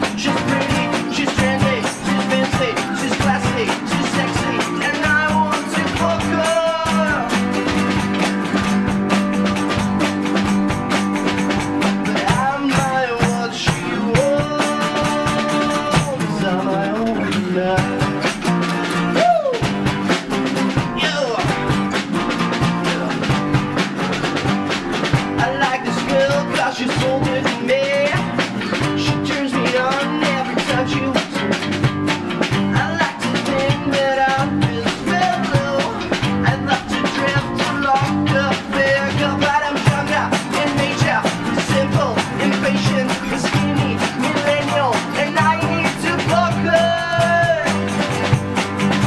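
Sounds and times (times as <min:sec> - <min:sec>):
acoustic guitars strumming: 0:00.0 - 0:49.0
bass guitar: 0:00.0 - 0:49.0
drum kit: 0:00.0 - 0:49.0.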